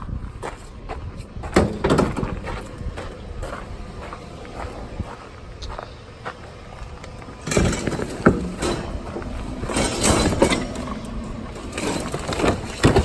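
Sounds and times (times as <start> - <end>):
junk clattering and rustling: 0.3 - 13.0.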